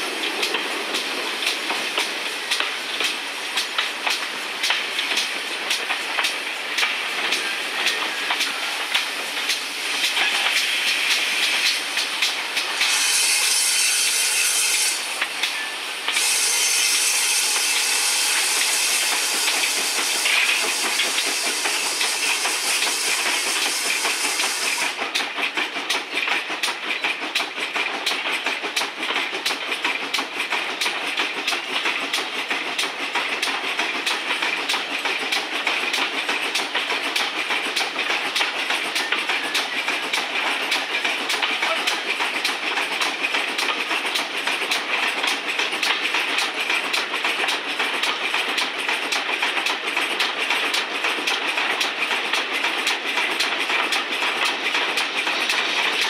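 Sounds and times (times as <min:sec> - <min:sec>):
locomotive steam hiss: 0:00.0 - 0:56.0
train wheels clattering on track: 0:00.0 - 0:56.0.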